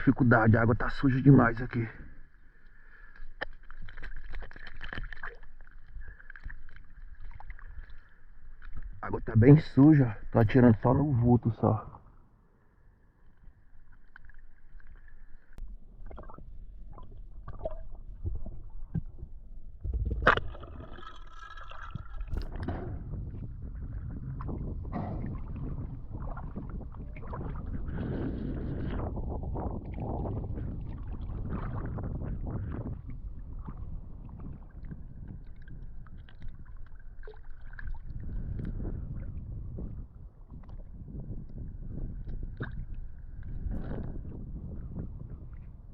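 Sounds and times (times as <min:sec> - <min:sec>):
underwater gurgling: 0:02.9 - 0:12.1, 0:13.8 - 0:44.4.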